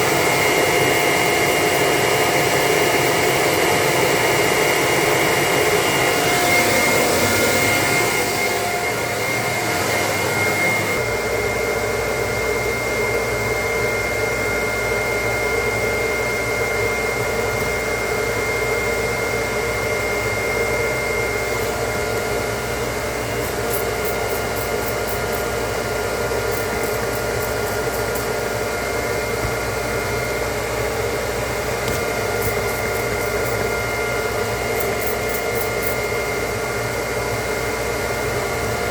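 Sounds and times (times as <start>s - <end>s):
motor whirring with whine: 0.0s - 38.9s.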